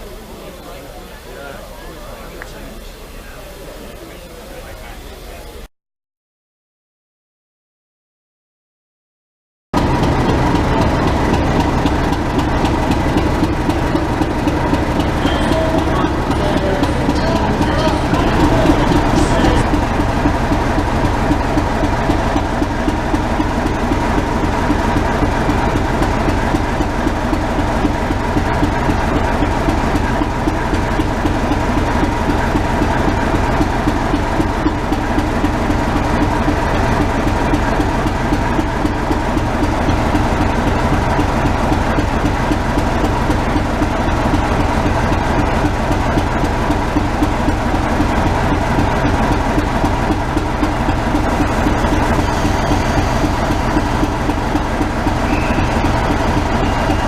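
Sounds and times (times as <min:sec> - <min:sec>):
locomotive running: 0:00.0 - 0:05.7, 0:09.8 - 0:57.0.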